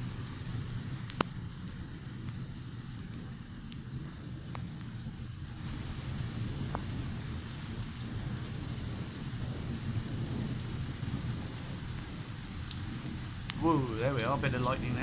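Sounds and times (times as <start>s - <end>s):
heavy rain: 0.0s - 15.0s
low rolling thunder: 0.0s - 15.0s
sharp drip ticks: 0.2s - 15.0s.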